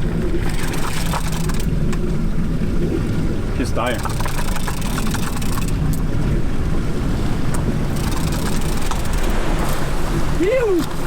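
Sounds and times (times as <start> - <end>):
water rushing past hull: 0.0 - 11.0
wind noise: 0.0 - 11.0.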